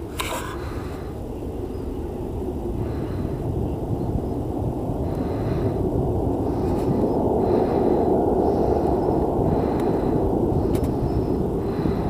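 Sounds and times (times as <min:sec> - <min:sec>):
jet engines rumbling at takeoff: 0:00.0 - 0:12.0.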